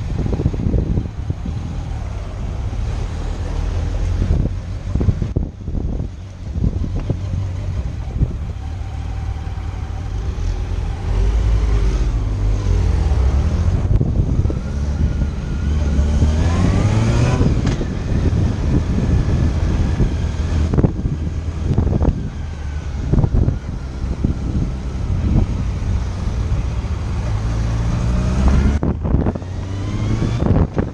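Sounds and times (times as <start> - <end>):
wind buffeting microphone: 0.0 - 2.9, 3.9 - 30.9
motorcycle engine accelerating: 0.0 - 30.9.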